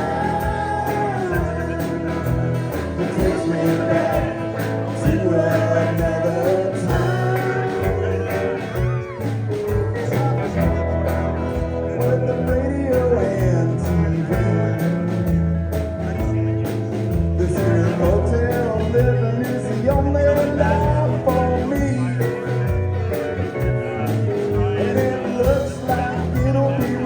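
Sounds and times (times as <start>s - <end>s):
band playing country-rock song: 0.0s - 27.0s.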